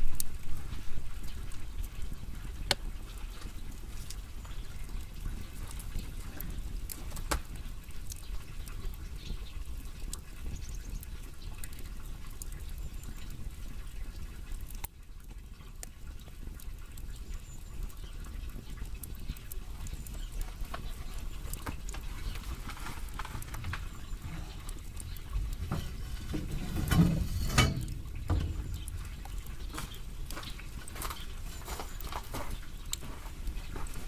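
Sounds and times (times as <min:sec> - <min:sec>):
firewood crackling and popping: 0:00.0 - 0:34.0
low rumble of fire: 0:00.0 - 0:34.0.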